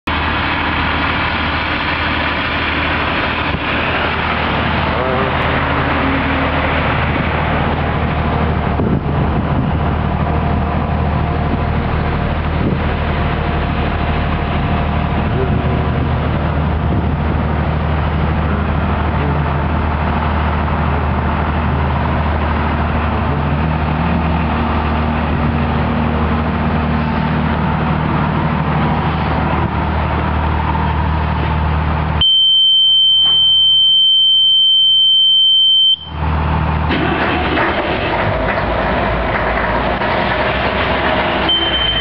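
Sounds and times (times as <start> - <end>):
pump engine running: 0.1 - 42.0.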